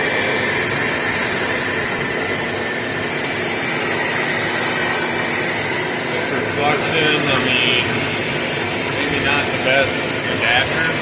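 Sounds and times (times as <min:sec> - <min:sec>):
shop vacuum running: 0:00.0 - 0:11.0.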